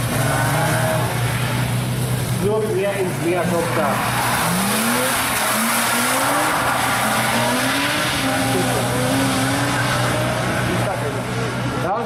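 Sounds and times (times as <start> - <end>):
tyres hissing on wet road: 0.0 - 11.8
car engine revving: 0.0 - 12.0.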